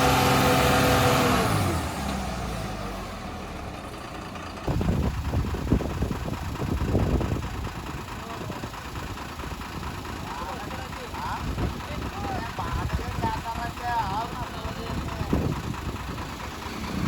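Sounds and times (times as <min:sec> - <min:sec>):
diesel truck engine high revs: 0:00.0 - 0:17.0
rough labouring engine with knocks: 0:00.0 - 0:17.0.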